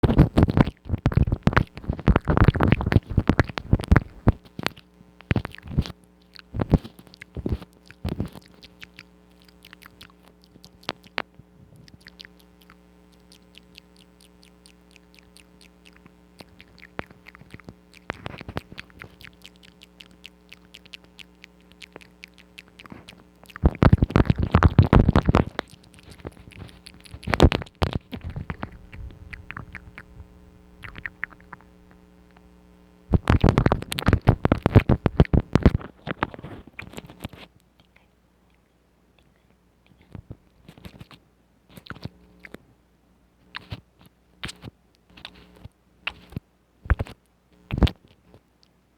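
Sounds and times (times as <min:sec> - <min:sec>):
wet mouth clicks and smacks: 0:00.0 - 0:32.5, 0:33.1 - 0:38.1, 0:39.2 - 0:42.6, 0:43.5 - 0:48.7
low electrical hum: 0:00.0 - 0:48.9.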